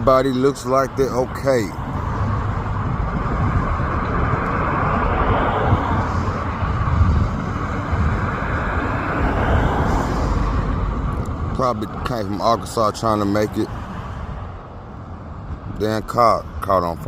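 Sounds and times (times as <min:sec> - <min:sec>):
road traffic rumble: 0:00.0 - 0:17.0
wind: 0:00.0 - 0:17.0.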